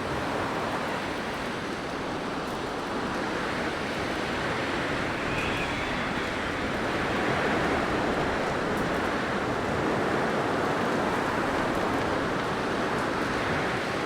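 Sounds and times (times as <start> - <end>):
blizzard wind roaring: 0.0 - 14.0.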